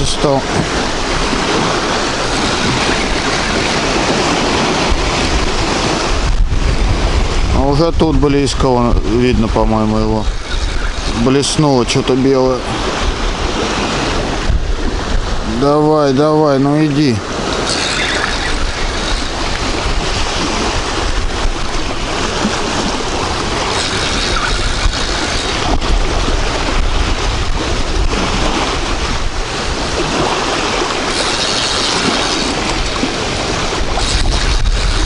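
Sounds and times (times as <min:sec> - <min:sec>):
waves washing: 0:00.0 - 0:35.0
wind buffeting microphone: 0:00.0 - 0:35.0.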